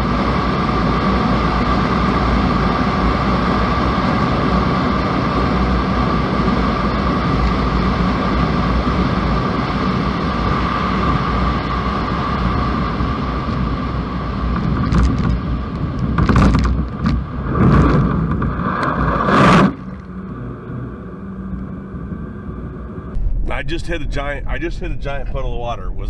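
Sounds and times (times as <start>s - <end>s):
vehicle road and engine noise: 0.0s - 26.0s.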